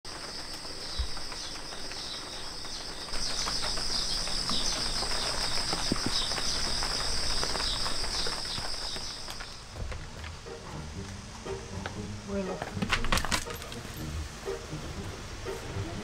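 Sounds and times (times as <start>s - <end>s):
insects chirping: 0.1s - 16.0s.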